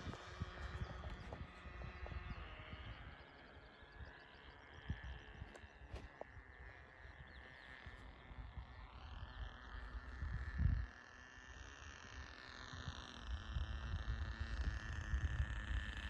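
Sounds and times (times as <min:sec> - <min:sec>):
model plane engine buzzing: 0:00.0 - 0:16.0
wind rumble on microphone: 0:00.0 - 0:16.0.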